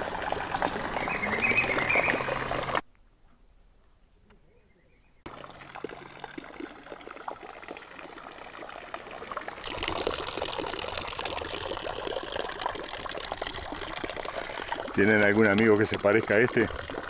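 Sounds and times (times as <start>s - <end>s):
fountain water splashing into basin: 0.0s - 2.8s, 5.3s - 17.0s.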